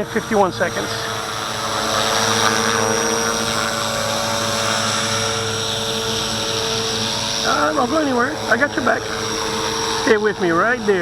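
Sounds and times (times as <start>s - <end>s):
low rotor hum: 0.0s - 11.0s
model helicopter whine: 0.0s - 11.0s.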